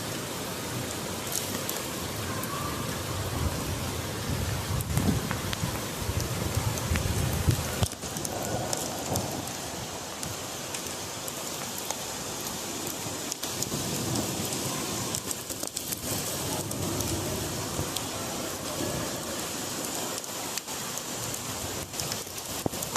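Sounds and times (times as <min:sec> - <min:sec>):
heavy rain pattering: 0:00.0 - 0:22.9.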